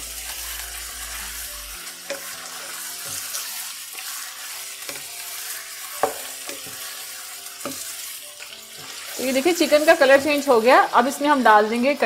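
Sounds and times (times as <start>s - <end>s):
chicken sizzling in a wok: 0.0s - 12.0s
wooden spatula scraping a pan: 0.2s - 11.4s.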